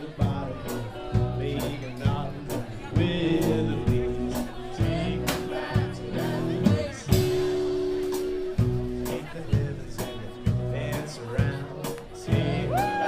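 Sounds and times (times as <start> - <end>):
person singing: 0.0 - 8.0, 8.8 - 13.0
blues band playing: 0.0 - 13.0.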